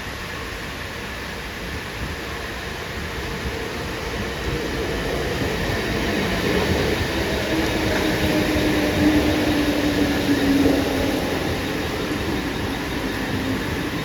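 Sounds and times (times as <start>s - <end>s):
electric train running: 1.4s - 14.0s.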